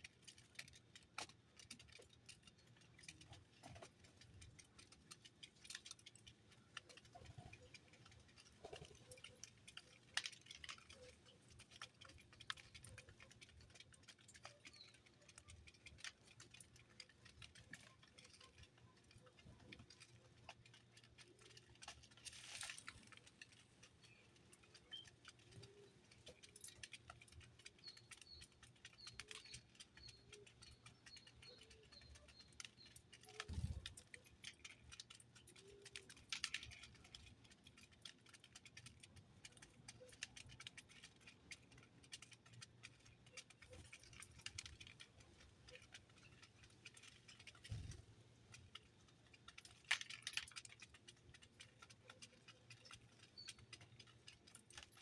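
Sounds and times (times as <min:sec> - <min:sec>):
birds pecking clicks: 0:00.0 - 0:55.0.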